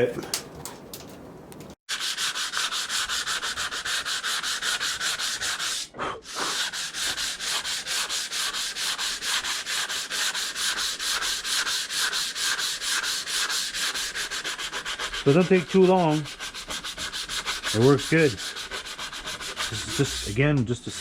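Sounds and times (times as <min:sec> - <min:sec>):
sandpaper rubbing on metal blade: 0:01.9 - 0:21.0.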